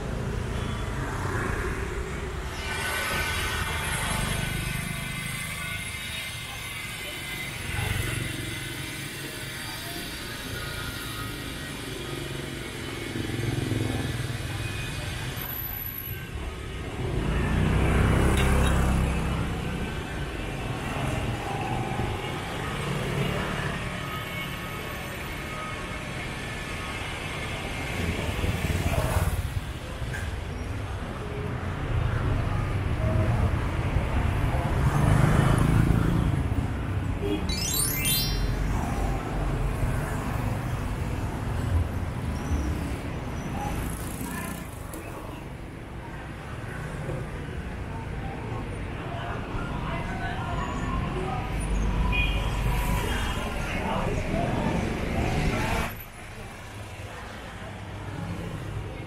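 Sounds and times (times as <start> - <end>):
street traffic noise: 0.0 - 59.0.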